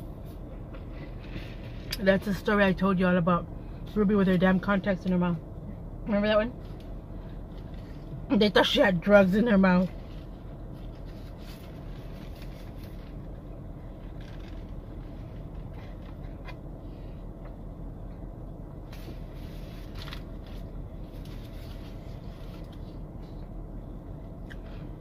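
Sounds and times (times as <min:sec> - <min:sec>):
low car cabin hum: 0:00.0 - 0:25.0.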